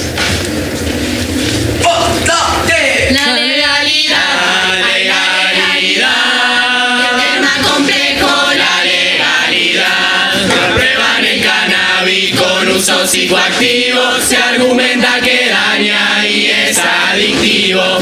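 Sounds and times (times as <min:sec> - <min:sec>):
chorus singing together: 0:01.8 - 0:18.0.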